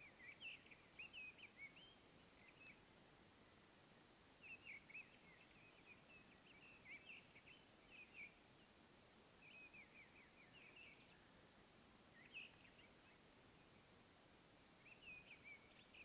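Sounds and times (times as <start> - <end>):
faint background hiss: 0.0 - 16.0
faint bird song chirps: 0.0 - 16.0.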